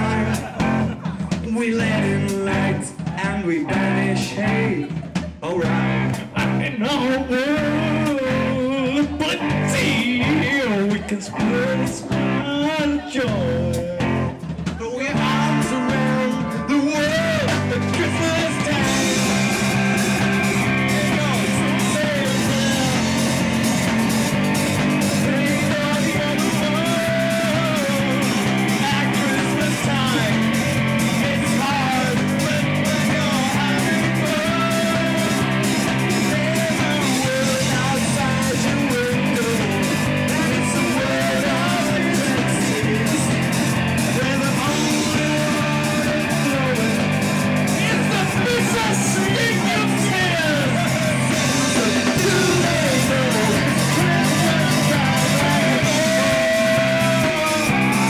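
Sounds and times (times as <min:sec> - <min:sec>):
instrumental rock music: 0:00.0 - 0:58.0.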